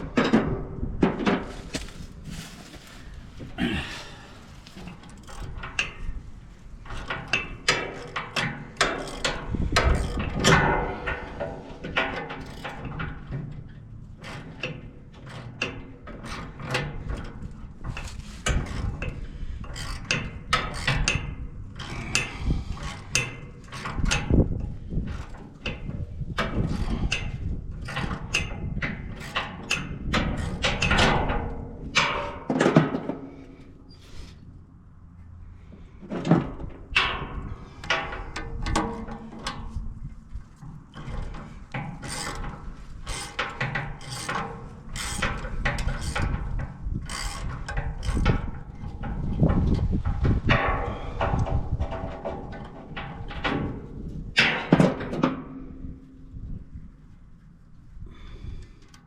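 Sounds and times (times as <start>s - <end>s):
metal clanking and knocking: 0.0s - 6.2s, 6.8s - 33.5s, 35.8s - 56.4s.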